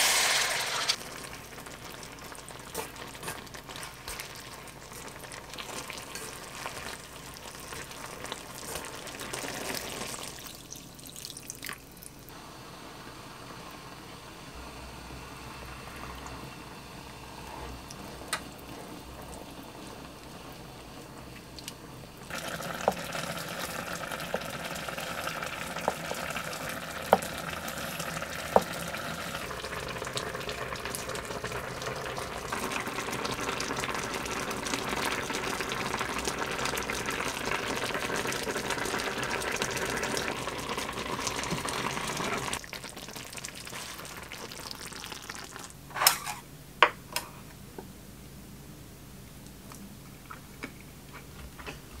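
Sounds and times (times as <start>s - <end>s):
broth simmering and bubbling: 0.6s - 45.8s.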